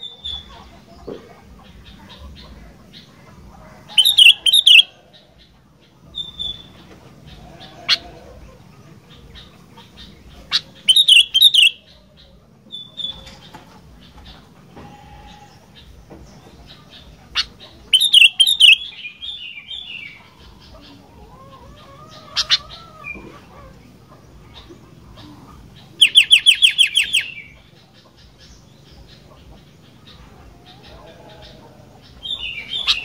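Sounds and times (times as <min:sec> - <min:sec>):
bulbul calling: 0:03.9 - 0:08.2, 0:09.1 - 0:33.0.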